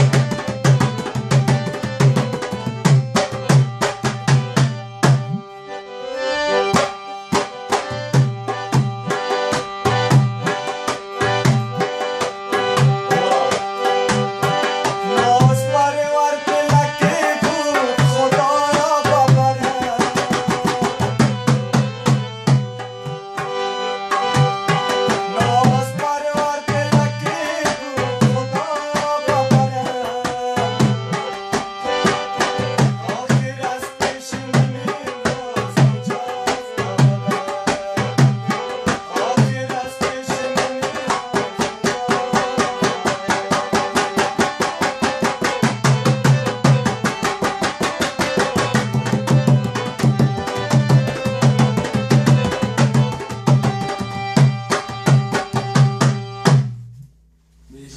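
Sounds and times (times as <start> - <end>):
harmonium chords and melody: 0.0 - 57.9.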